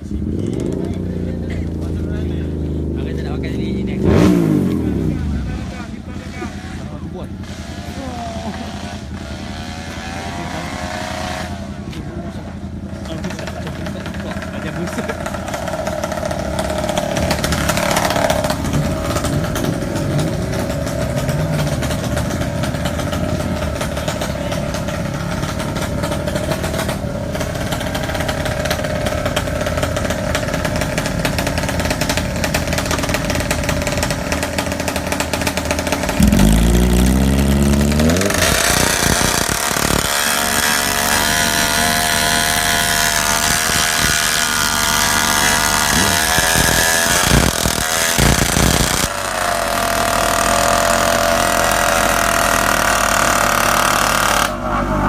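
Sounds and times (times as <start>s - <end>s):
motorcycle engines running: 0.0s - 55.0s
motorcycle revving hard: 0.0s - 55.0s.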